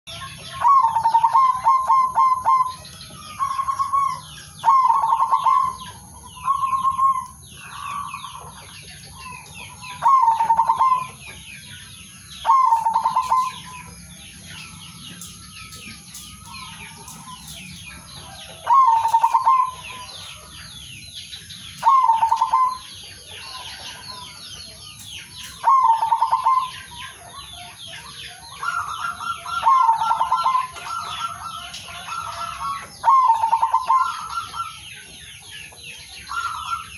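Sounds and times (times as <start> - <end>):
dove cooing trilled call: 0.1 - 36.9
small birds chirping: 0.1 - 36.9.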